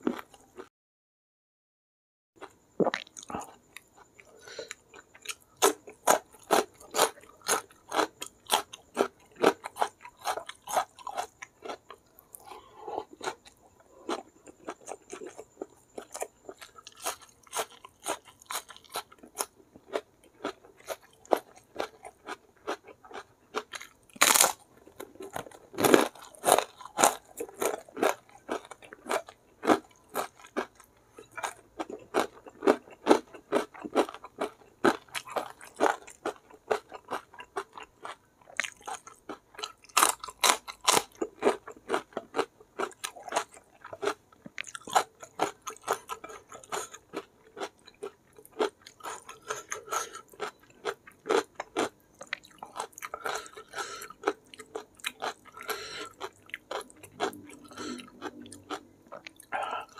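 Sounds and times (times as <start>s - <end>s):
wet chewing and crunching: 2.4s - 59.9s.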